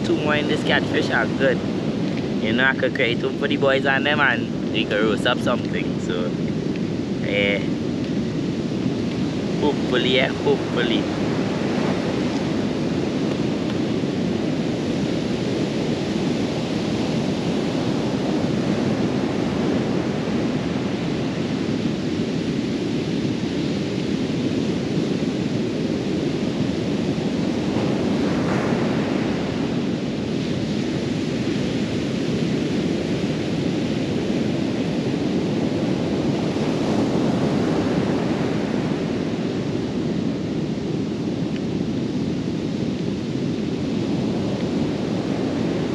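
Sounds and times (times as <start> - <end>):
ocean surf breaking: 0.0 - 45.9
wind on microphone: 0.0 - 45.9.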